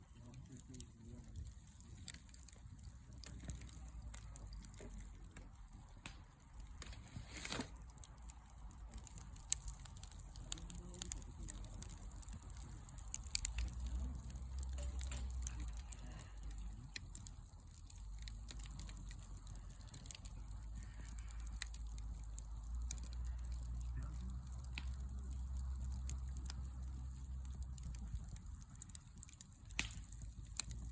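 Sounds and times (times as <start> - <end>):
campfire crackling: 0.0 - 30.9
low steady rumble: 0.0 - 30.9.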